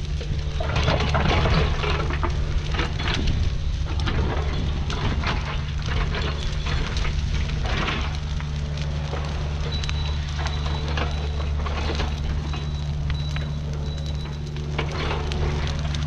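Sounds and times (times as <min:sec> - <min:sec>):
burning brush crackling: 0:00.0 - 0:16.0
excavator engine running: 0:00.0 - 0:16.0.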